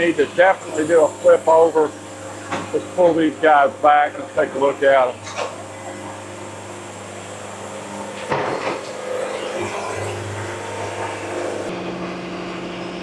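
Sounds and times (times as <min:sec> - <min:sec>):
sawmill machinery humming: 0:00.0 - 0:13.0.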